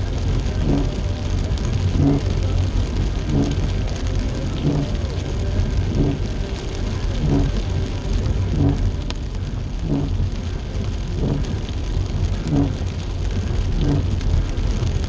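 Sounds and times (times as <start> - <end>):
rain hissing: 0.0 - 15.0
road and engine rumble: 0.0 - 15.0
windshield wipers sweeping: 0.3 - 15.0.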